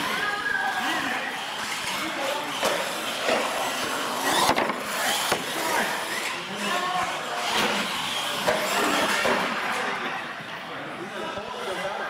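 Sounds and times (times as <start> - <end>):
radio-controlled trucks whirring: 0.0 - 12.0
voices chattering: 0.0 - 12.0.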